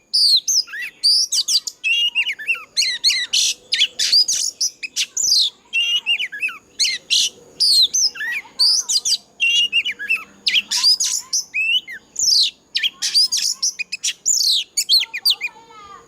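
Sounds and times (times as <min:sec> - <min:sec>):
bird singing whistled phrases: 0:00.0 - 0:15.6.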